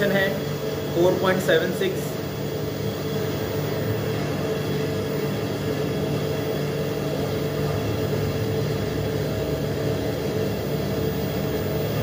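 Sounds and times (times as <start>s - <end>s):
electric pump motor humming: 0.0s - 12.0s.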